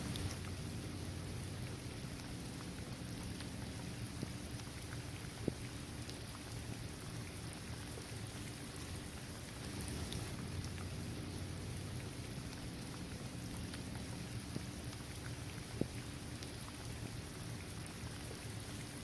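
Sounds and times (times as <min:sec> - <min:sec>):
rain falling on court and trees: 0:00.0 - 0:19.0
raindrops ticking: 0:00.0 - 0:19.0.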